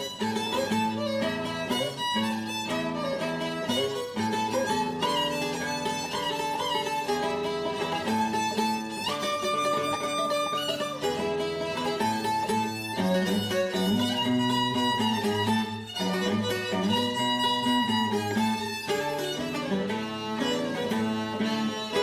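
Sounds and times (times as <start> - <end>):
plucked guitar: 0.0 - 22.0
violin melody: 0.0 - 22.0.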